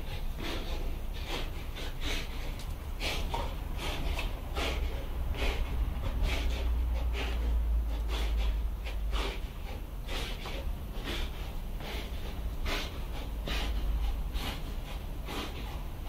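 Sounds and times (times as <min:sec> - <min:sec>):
dogs snorting and huffing: 0:00.0 - 0:16.0.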